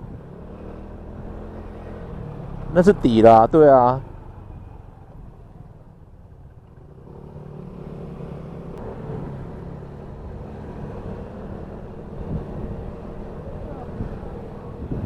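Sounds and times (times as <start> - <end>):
road rumble: 0.0 - 15.0
vehicle engine: 0.0 - 15.0.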